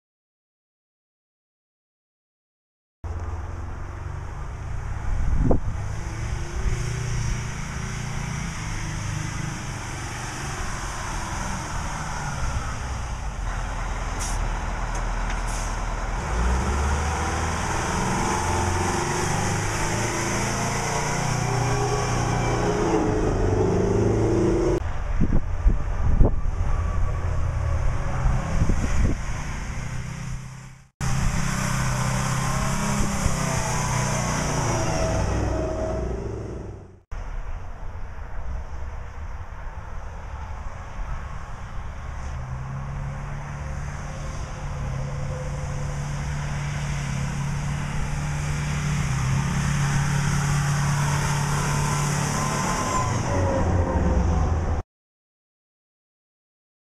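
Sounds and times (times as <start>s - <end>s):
diesel truck engine driving: 3.1s - 38.6s, 39.9s - 54.8s.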